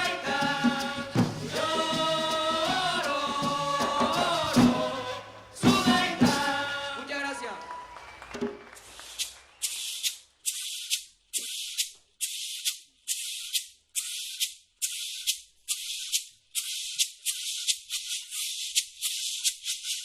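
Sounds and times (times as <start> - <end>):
maraca shaking: 0.0 - 11.8, 14.0 - 20.0.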